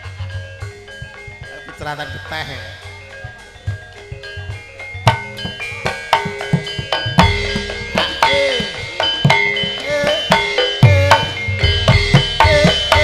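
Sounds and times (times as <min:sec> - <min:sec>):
bronze metallophones ringing: 0:00.0 - 0:13.0
gamelan music: 0:00.0 - 0:13.0.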